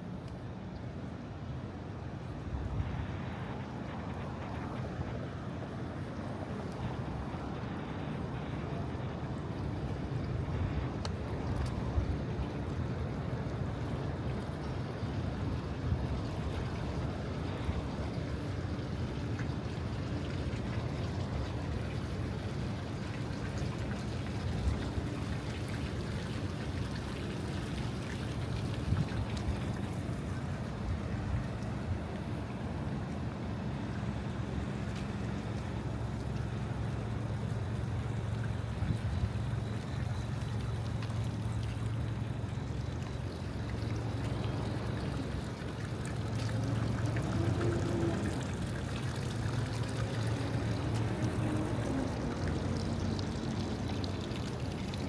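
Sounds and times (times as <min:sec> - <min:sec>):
fountain water splashing: 0:00.0 - 0:55.0
low traffic rumble: 0:00.0 - 0:55.0
rain-like hiss: 0:02.8 - 0:55.0.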